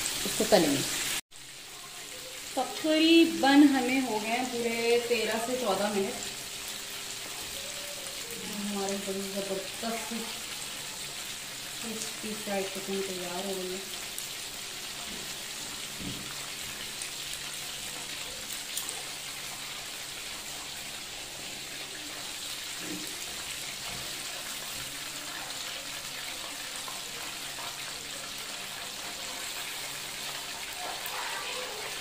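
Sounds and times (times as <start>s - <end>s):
chicken deep-frying in oil: 0.0s - 32.0s.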